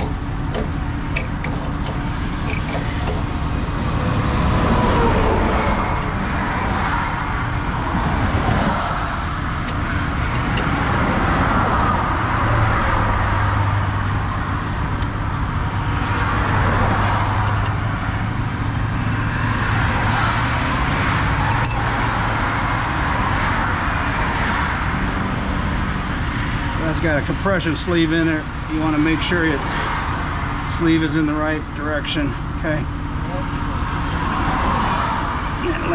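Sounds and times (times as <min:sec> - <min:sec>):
highway traffic passing: 0:00.0 - 0:35.9.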